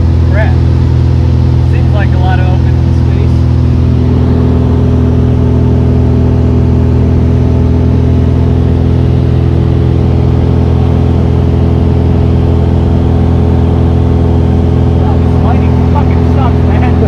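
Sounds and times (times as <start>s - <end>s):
aircraft engine and propeller drone: 0.0s - 17.0s.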